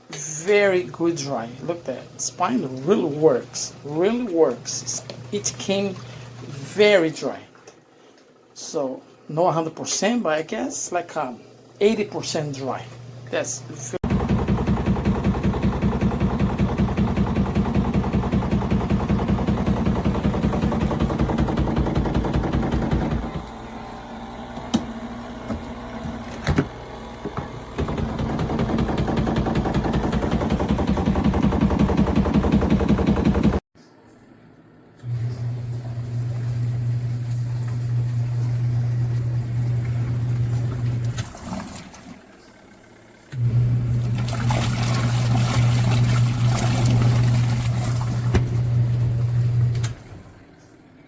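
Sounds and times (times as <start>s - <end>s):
washing machine motor rattling: 0.3s - 7.2s, 11.8s - 24.6s, 25.3s - 33.6s, 35.1s - 41.8s, 43.3s - 50.6s.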